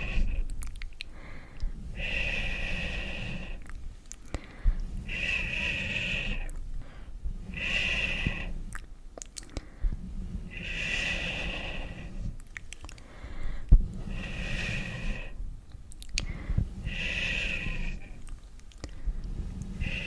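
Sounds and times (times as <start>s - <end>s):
slow hissing strokes: 0.0s - 20.0s.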